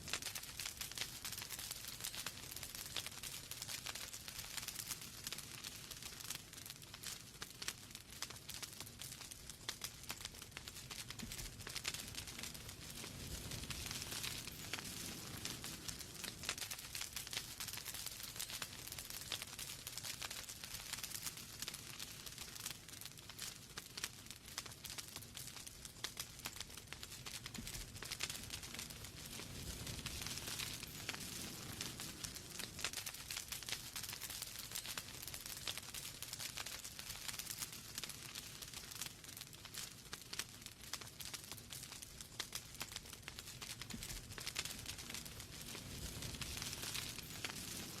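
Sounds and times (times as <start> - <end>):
hiss of burning logs: 0.0 - 48.0
low rumble of flames: 0.0 - 48.0
wood fire crackling: 0.0 - 48.0.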